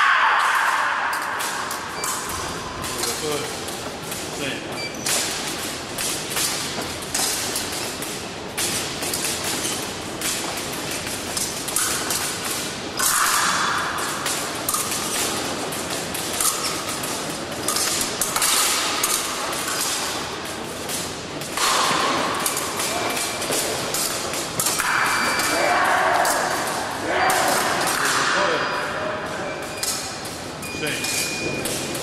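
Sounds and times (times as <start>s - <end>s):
fencing blades clicking and clashing: 0.0s - 32.0s.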